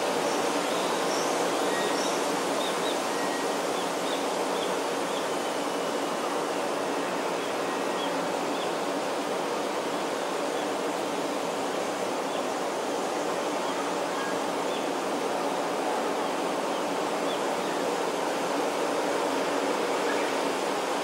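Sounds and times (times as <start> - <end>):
steady rush of forest noise: 0.0 - 21.0.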